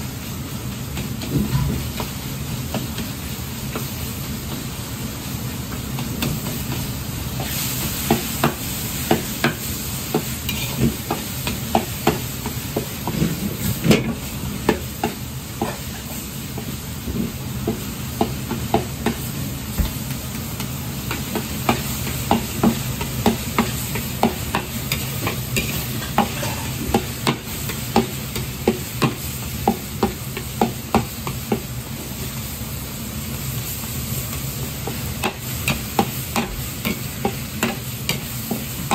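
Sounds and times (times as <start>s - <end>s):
meat sizzling: 0.0s - 38.9s.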